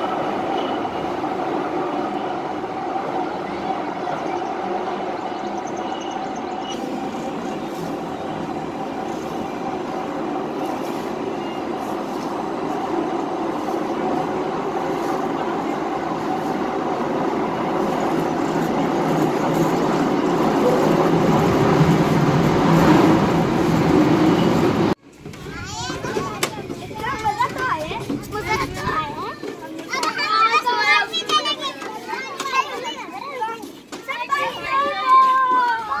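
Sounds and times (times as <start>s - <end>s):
ride train rumbling on track: 0.0s - 36.0s.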